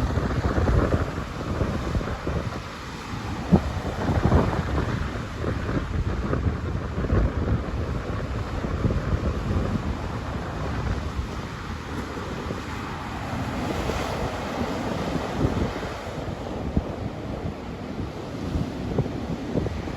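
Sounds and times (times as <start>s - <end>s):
sea waves breaking: 0.0s - 19.9s
wind buffeting microphone: 0.0s - 19.9s.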